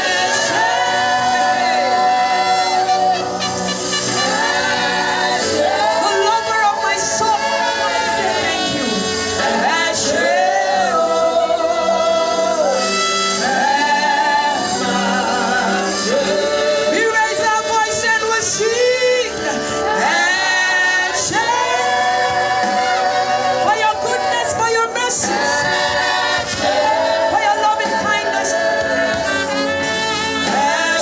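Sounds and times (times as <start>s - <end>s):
choir singing gospel song: 0.0s - 31.0s.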